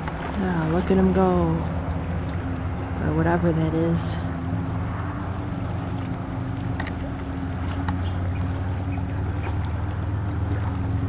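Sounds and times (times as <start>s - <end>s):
jet ski engine droning: 0.0s - 11.0s.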